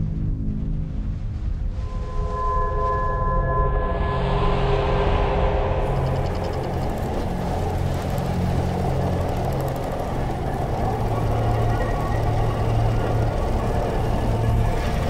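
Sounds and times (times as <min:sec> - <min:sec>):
low droning tone: 0:01.4 - 0:15.0.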